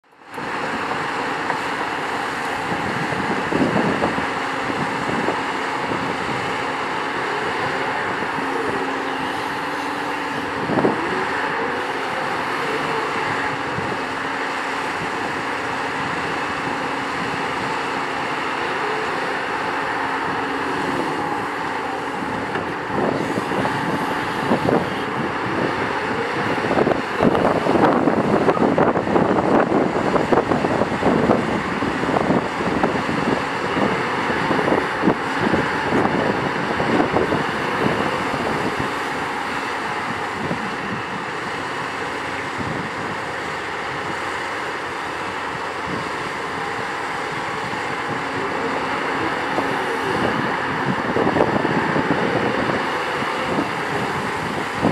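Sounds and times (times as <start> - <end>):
excavator engine and hydraulics: 0.0 - 54.9.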